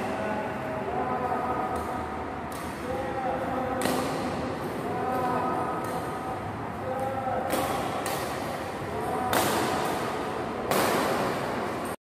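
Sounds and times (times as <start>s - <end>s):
racket hitting shuttlecock: 1.6s - 3.0s, 3.7s - 12.0s.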